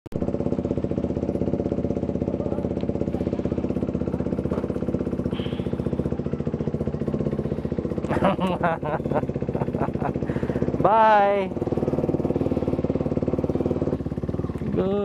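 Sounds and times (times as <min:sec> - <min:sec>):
motorcycle engine at low revs: 0:00.1 - 0:15.0.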